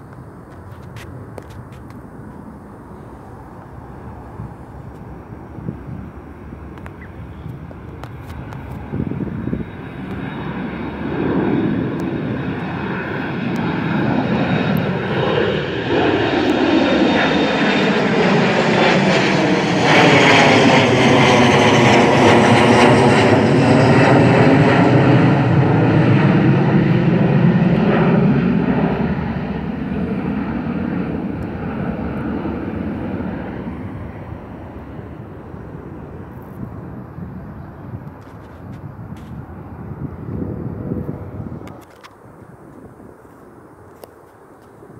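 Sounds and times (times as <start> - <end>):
airliner engines passing overhead: 0.0 - 44.9.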